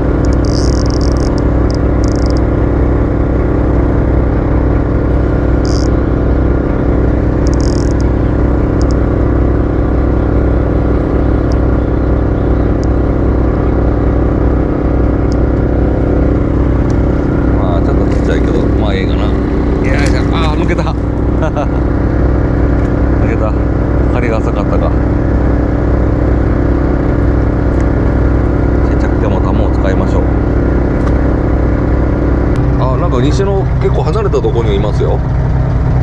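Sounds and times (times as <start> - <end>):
motorboat engine droning: 0.0 - 36.0.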